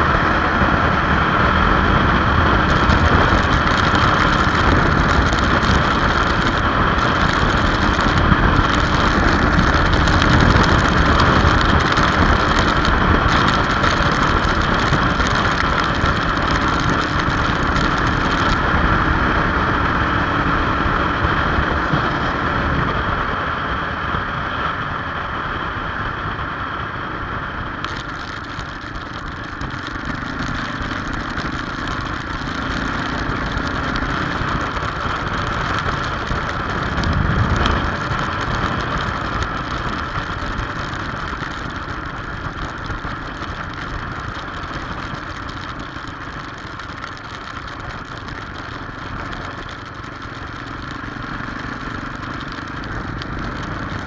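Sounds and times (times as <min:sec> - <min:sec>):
motorcycle engine at speed: 0:00.0 - 0:54.0
tyres on wet road: 0:00.0 - 0:54.0
wind noise: 0:00.0 - 0:54.0.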